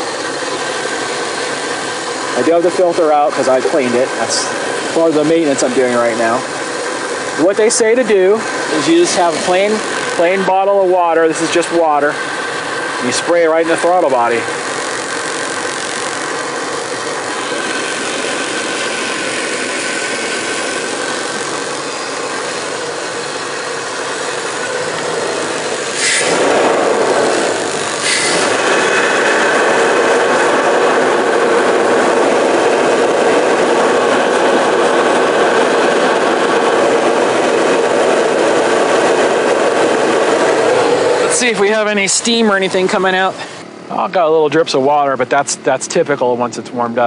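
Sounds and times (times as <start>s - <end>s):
water spray hissing: 0.0s - 43.7s
car engine idling: 0.0s - 44.0s.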